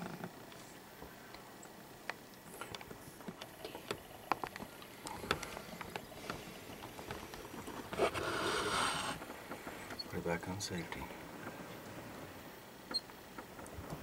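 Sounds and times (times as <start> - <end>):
faint clicks and knocks of gear: 0.0 - 8.0, 9.2 - 12.0, 12.8 - 14.0.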